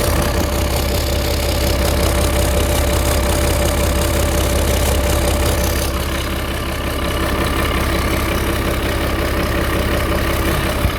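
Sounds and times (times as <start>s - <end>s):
boat engine idling: 0.0s - 10.9s.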